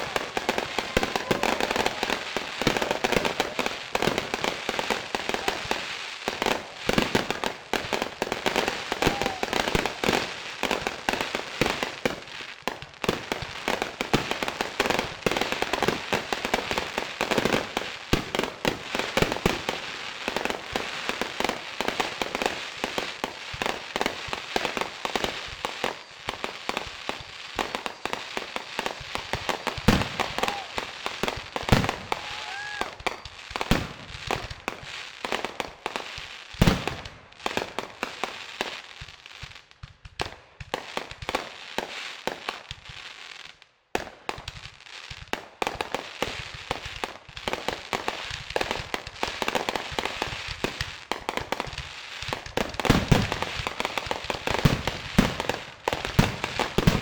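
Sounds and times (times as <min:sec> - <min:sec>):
fireworks popping and banging: 0:00.0 - 0:57.0.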